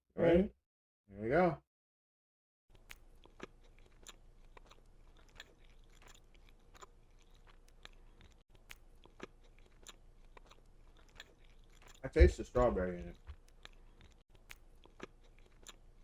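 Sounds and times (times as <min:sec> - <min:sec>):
chewing with mouth clicks: 0:02.7 - 0:16.0
low steady hum: 0:02.9 - 0:16.0.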